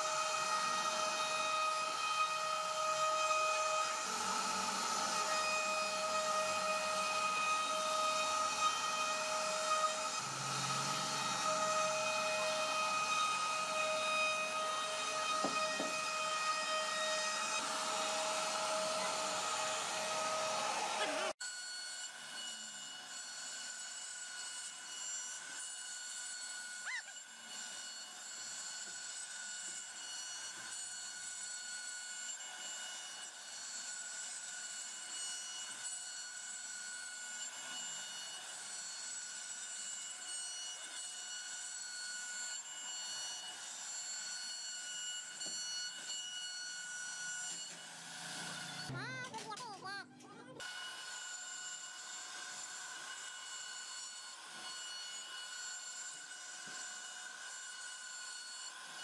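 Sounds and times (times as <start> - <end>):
router spindle whining: 0.0 - 49.6, 50.2 - 59.0.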